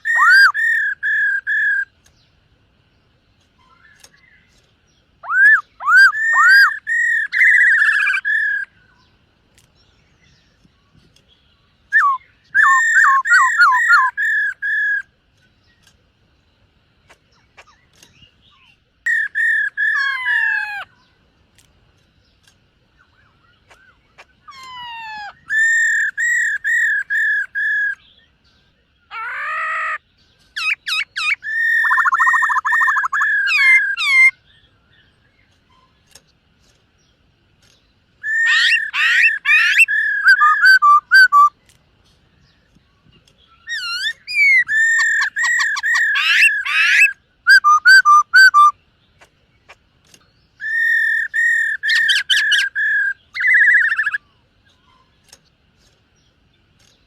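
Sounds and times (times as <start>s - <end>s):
bird singing whistled notes: 0.0s - 2.4s, 3.6s - 9.2s, 9.8s - 16.6s, 17.3s - 21.2s, 22.3s - 36.2s, 37.0s - 41.6s, 42.4s - 48.9s, 50.2s - 55.2s.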